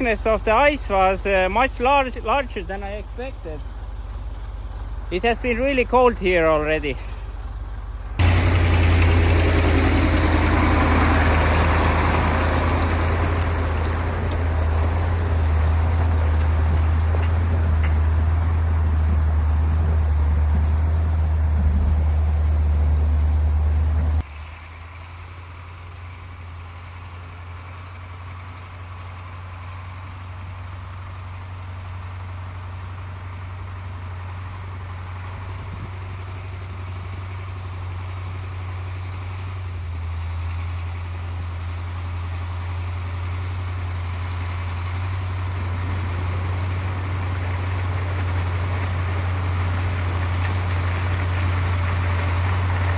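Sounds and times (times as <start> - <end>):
diesel truck engine droning: 0.0 - 52.9.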